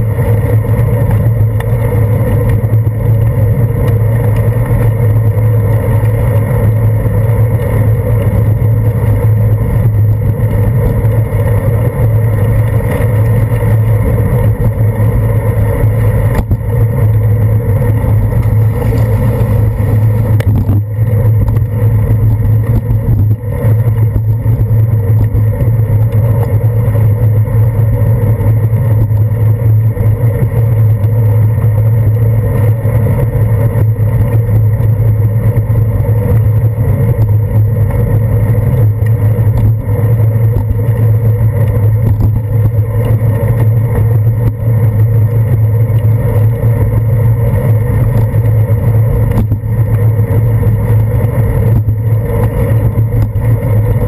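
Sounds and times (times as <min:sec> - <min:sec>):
bicycle riding over wet pavement: 0:00.0 - 0:54.0
wind noise: 0:00.0 - 0:54.0.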